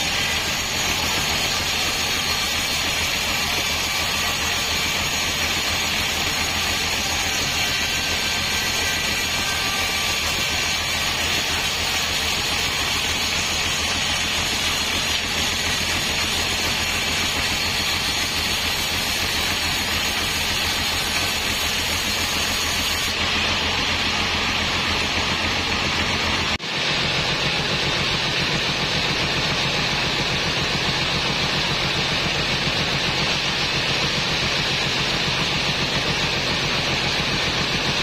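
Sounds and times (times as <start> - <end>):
bandsaw cutting through log: 0.0 - 38.0.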